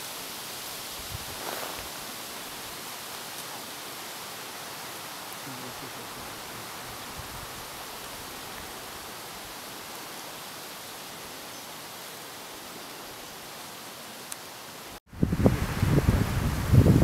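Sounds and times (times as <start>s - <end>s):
faint outdoor background: 0.0s - 17.0s
microphone hiss: 0.0s - 17.0s.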